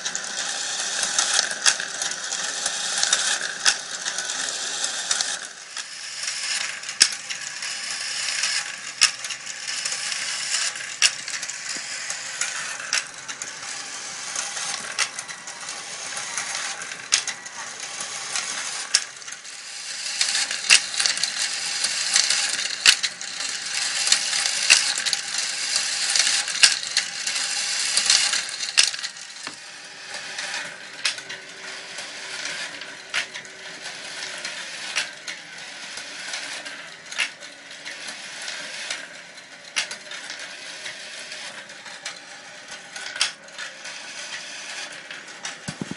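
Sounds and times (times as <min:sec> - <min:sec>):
marbles clicking and clacking: 0:00.0 - 0:37.4
marbles rattling along wire tracks: 0:00.0 - 0:45.9.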